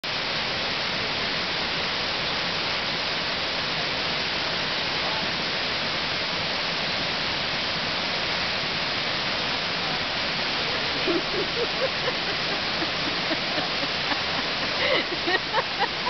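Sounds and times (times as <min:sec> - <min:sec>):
waterfall rushing: 0:00.1 - 0:16.0.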